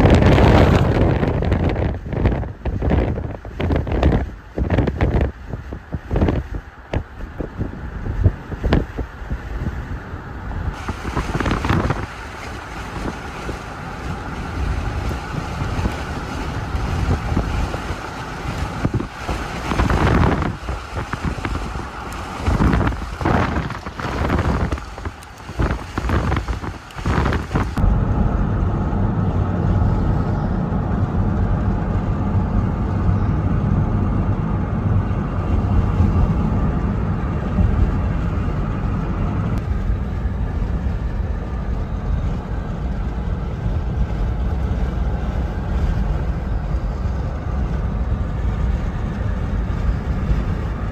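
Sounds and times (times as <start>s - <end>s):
low engine and road rumble: 0.0s - 50.9s
wind gusting on microphone: 0.0s - 50.9s.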